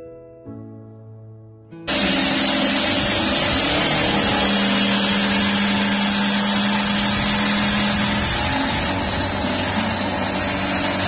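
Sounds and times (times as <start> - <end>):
jigsaw cutting plywood: 1.9 - 11.0.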